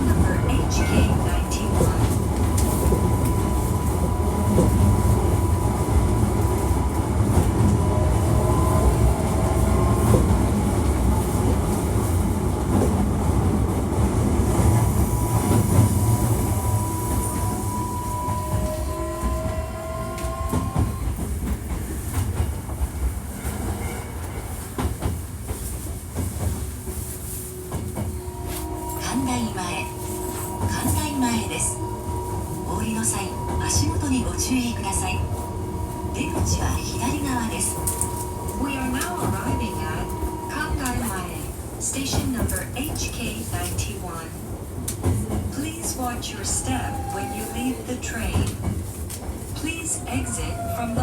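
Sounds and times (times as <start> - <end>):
rail joint clicks: 0.0 - 51.0
train wheels rumbling on rail: 0.0 - 51.0.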